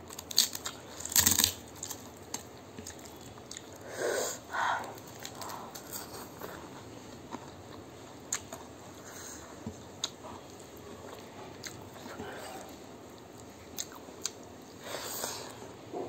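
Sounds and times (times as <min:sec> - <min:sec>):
chewing and wet mouth noises: 0:00.3 - 0:03.8, 0:04.8 - 0:15.6.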